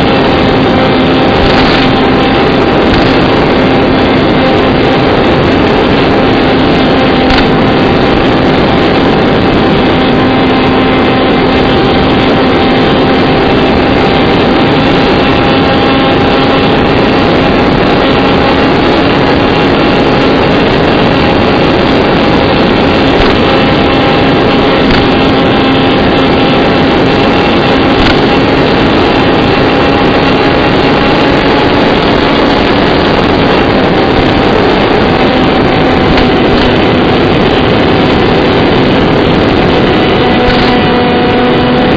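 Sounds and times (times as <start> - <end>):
electric motor and propeller: 0.0 - 41.9
rushing wind noise: 0.0 - 41.9.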